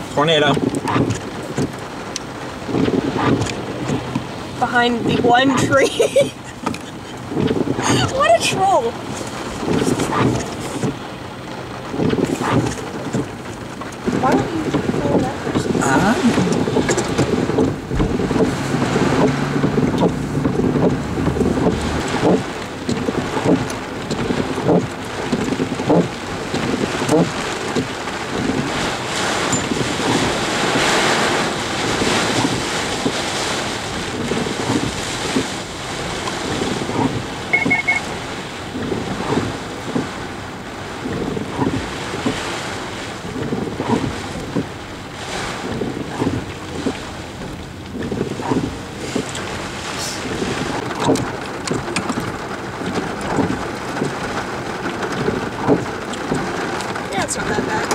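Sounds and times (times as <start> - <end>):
wind on microphone: 0.0 - 5.8, 6.4 - 11.0, 11.9 - 57.9
heavy rain: 0.0 - 57.9
vehicles splashing through floodwater: 0.0 - 57.9.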